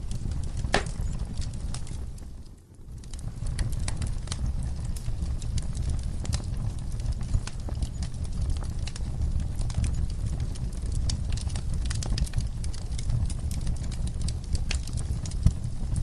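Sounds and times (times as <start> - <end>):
fire crackling and popping: 0.0 - 16.0
flames rumbling in fireplace: 0.0 - 16.0.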